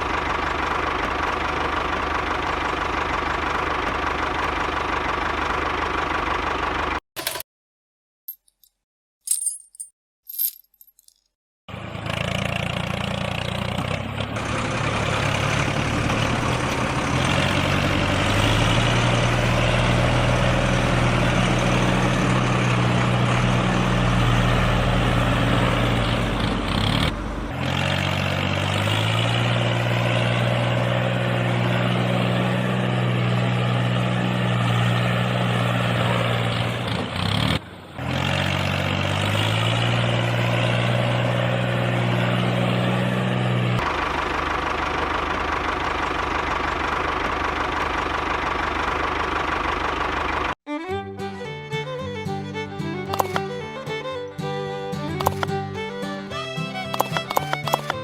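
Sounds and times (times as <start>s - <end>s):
truck engine running: 0.0s - 7.4s, 11.7s - 58.0s.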